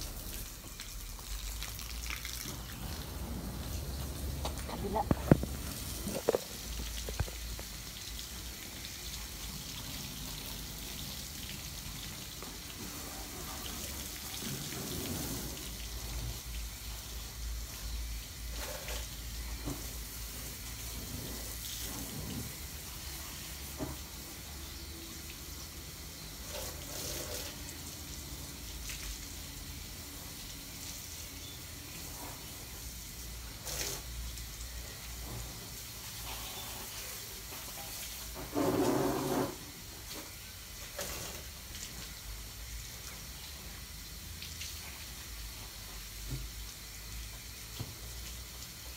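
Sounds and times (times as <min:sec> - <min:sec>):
hose water splashing on car: 0:00.0 - 0:48.9.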